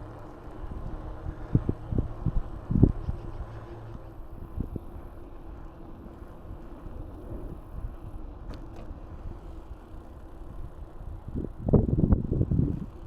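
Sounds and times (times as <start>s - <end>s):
bike tyres and frame rumbling: 0.0s - 13.0s
wind buffeting microphone: 0.6s - 9.5s, 10.5s - 13.0s.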